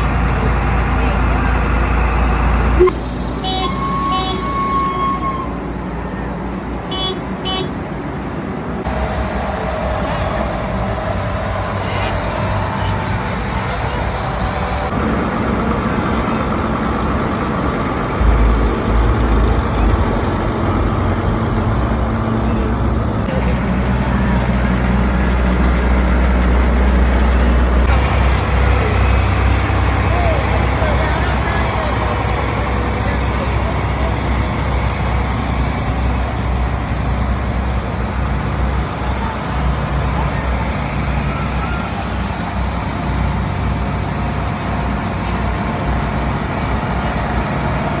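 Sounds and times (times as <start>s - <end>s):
tractor engines droning: 0.0s - 48.0s.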